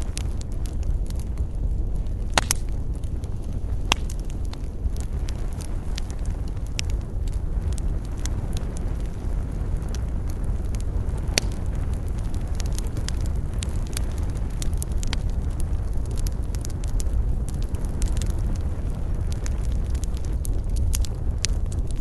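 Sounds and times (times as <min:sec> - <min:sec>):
campfire crackling and popping: 0:00.0 - 0:22.0
steady low rumble: 0:00.0 - 0:22.0.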